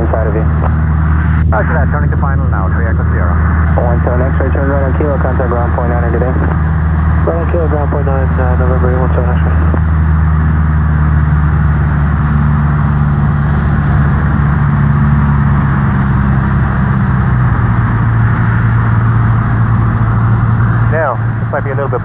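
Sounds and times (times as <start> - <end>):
air noise over airframe: 0.0 - 22.0
light aircraft engine droning: 0.0 - 22.0.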